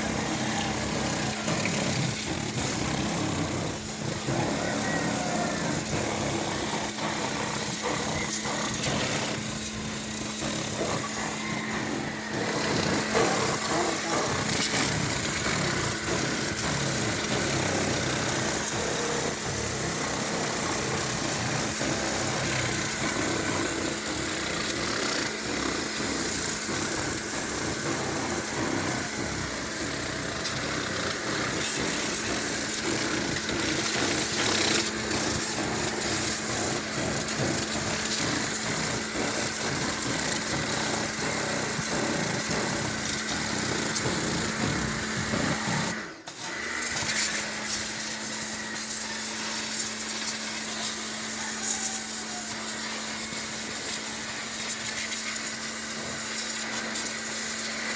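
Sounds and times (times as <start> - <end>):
pressure washer motor hum: 0.0 - 57.9
water jet hissing: 0.0 - 57.9.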